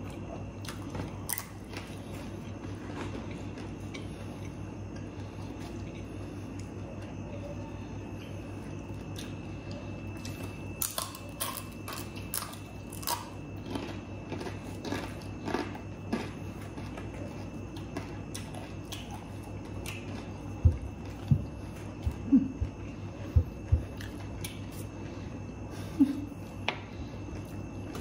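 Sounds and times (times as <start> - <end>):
people chewing food: 0.0 - 28.0
steady low hum: 0.0 - 28.0.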